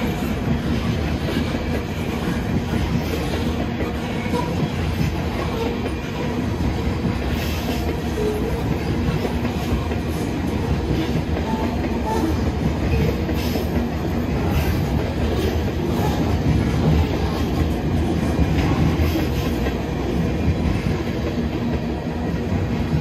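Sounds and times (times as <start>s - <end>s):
clickety-clack over rail joints: 0.0s - 23.0s
freight train wheels rumbling: 0.0s - 23.0s.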